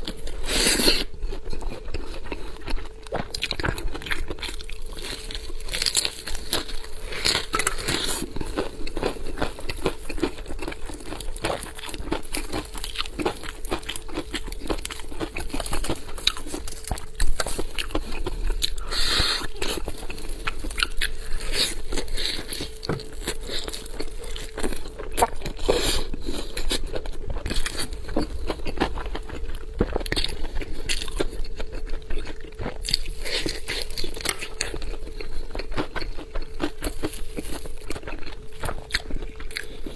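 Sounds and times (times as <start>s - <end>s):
crackling and crinkling: 0.0s - 39.9s
person chewing meat: 0.0s - 39.9s.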